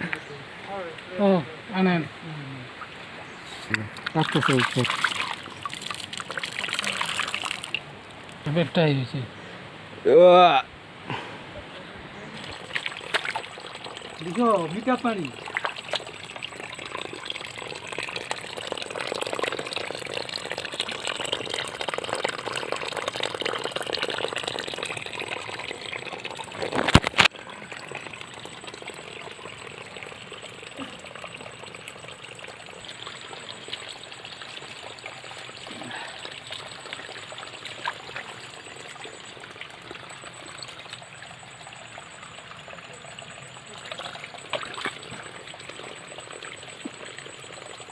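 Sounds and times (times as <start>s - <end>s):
river water running and trickling: 0.0s - 10.6s, 11.7s - 47.9s.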